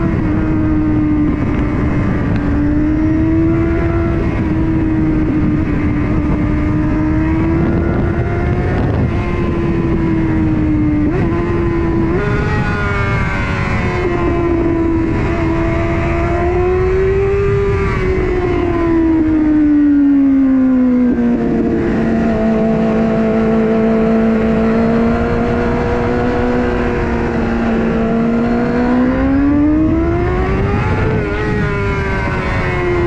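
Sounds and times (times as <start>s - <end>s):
motorcycle engine at high revs: 0.0s - 33.0s
wind rush on microphone: 0.0s - 33.0s.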